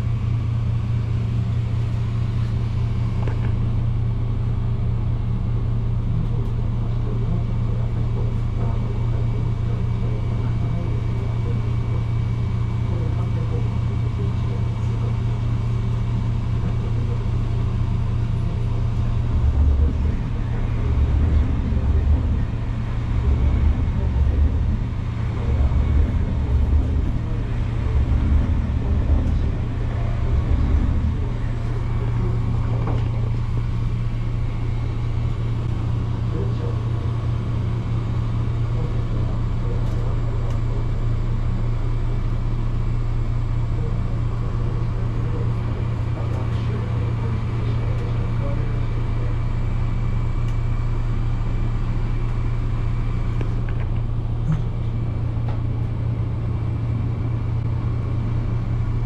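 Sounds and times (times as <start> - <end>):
heavy low engine throb: 0.0 - 59.0
track rumble: 0.0 - 59.0
train engine hum: 0.0 - 59.0.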